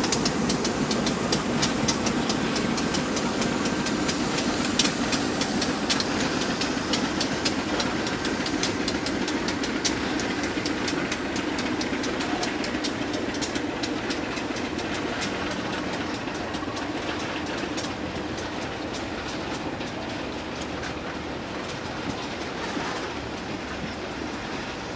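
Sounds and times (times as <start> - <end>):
rail vehicle rumbling on track: 0.0 - 24.9
wheels clicking on rails: 0.0 - 24.9.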